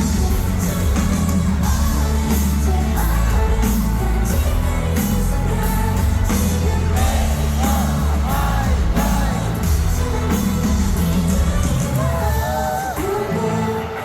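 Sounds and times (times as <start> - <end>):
live rock band music: 0.0 - 14.0
woman singing: 0.0 - 14.0.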